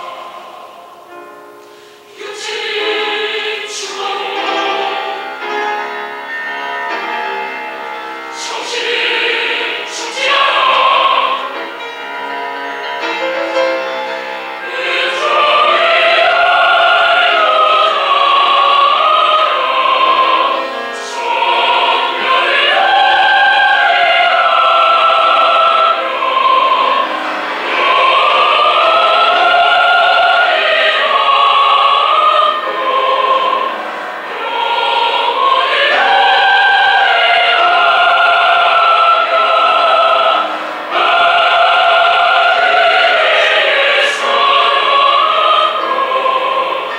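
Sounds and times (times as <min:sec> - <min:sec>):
choir singing: 0:00.0 - 0:46.9
piano accompaniment: 0:00.0 - 0:46.9.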